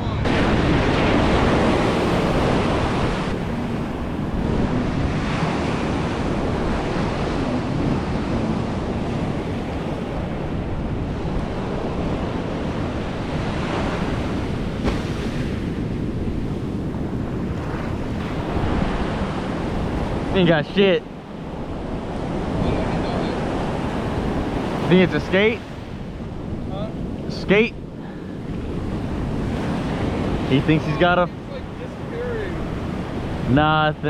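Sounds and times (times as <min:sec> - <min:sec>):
ocean surf breaking on beach: 0:00.0 - 0:34.0
wind buffeting microphone: 0:00.0 - 0:34.0.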